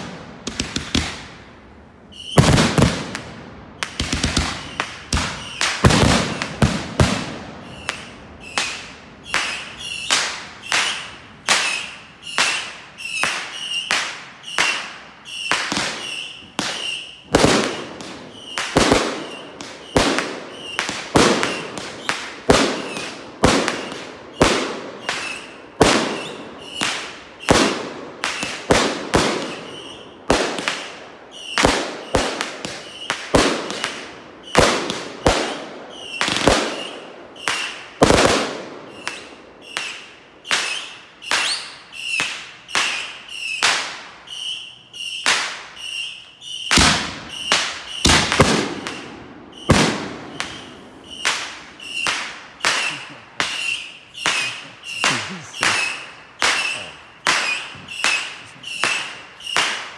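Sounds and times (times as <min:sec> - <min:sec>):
fireworks banging: 0:00.0 - 0:59.9.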